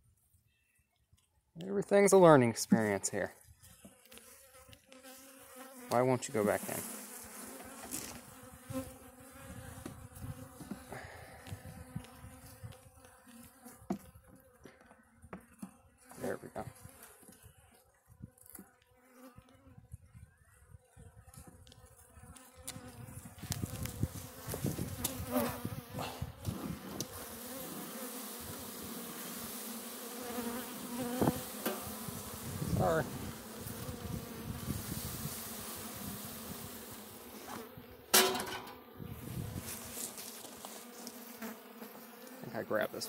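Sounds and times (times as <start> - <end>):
bees buzzing: 3.8 - 18.0, 21.9 - 43.0.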